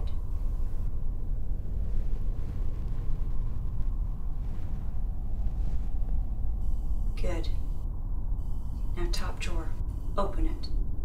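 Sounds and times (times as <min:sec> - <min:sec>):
low rumbling drone: 0:00.0 - 0:11.0.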